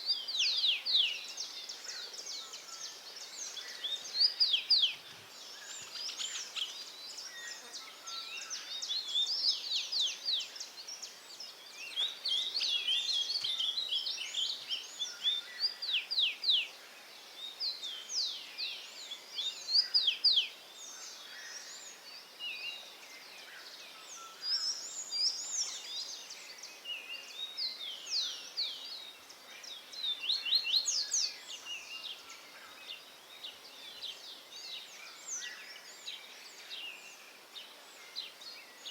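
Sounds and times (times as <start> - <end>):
faint outdoor hiss: 0.0 - 38.9.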